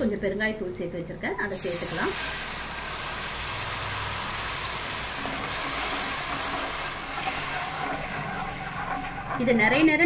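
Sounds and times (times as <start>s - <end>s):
lemon juice sizzling in hot oil: 1.5s - 9.8s.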